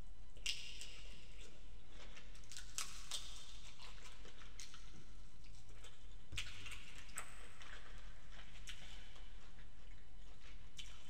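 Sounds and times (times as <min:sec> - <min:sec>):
low steady hum: 0:00.0 - 0:11.0
person chewing with mouth clicks: 0:00.4 - 0:11.0.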